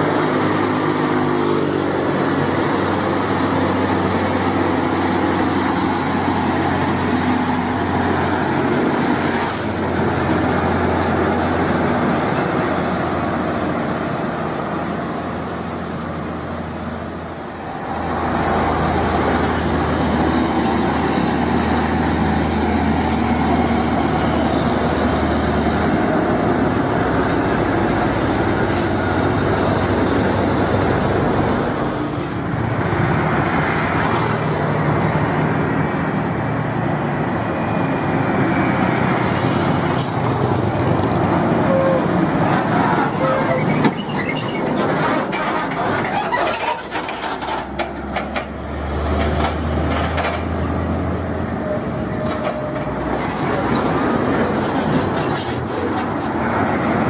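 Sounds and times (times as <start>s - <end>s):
diesel trucks passing: 0.0s - 57.0s
tyre and road noise: 0.0s - 57.0s.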